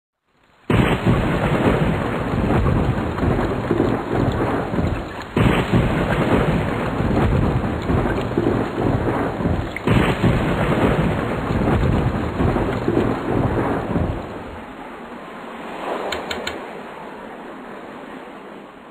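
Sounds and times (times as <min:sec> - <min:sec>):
heavy rain falling: 0:00.3 - 0:16.7
thunder rumbling: 0:00.7 - 0:17.1.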